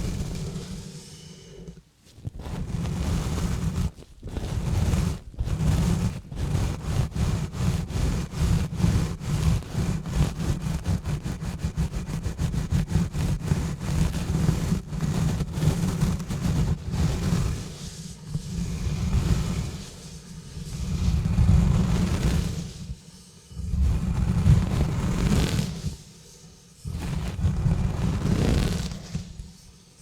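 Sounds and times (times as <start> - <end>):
gloves scrubbing on microphone: 0.0 - 30.0.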